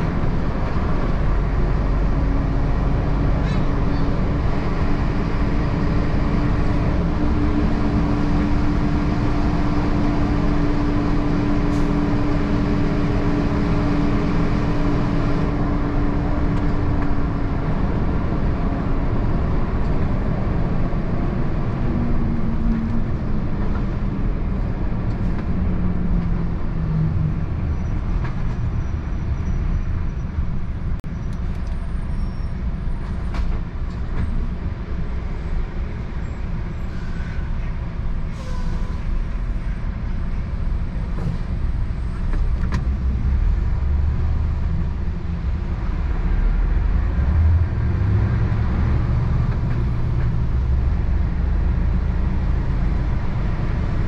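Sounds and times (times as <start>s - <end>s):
road noise: 0.0s - 54.0s
truck engine hum: 0.0s - 54.0s.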